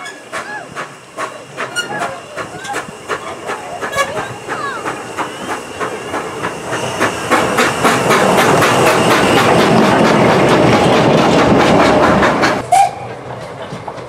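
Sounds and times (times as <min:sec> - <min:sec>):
steam hissing: 0:00.0 - 0:14.0
steam locomotive beats: 0:00.0 - 0:14.0.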